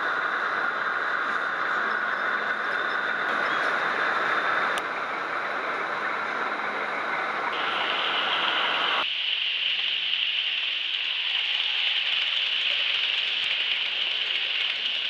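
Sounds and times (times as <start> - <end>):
model train wheels whirring: 0.0 - 15.0.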